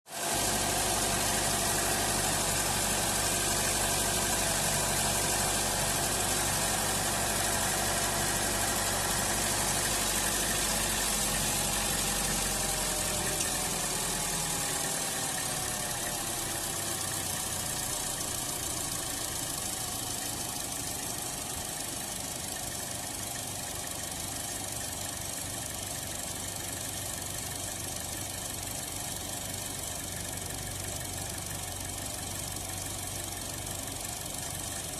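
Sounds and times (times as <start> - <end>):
car engine idling rough: 0.1 - 34.9.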